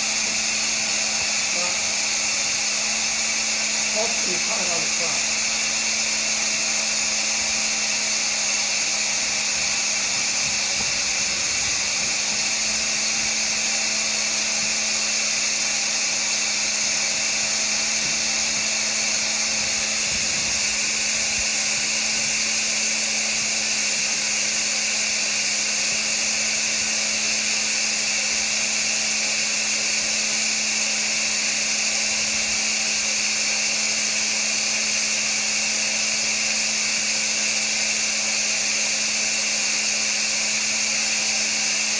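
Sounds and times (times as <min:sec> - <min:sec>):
cleaning machine motor whining: 0:00.0 - 0:41.9.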